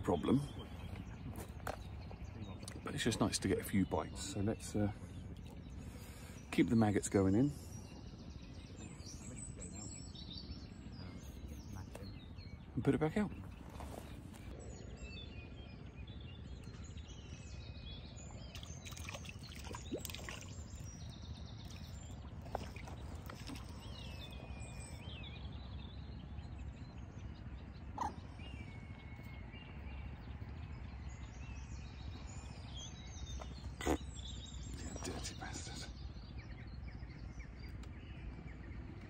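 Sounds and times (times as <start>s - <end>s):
birds calling: 0.0s - 39.0s.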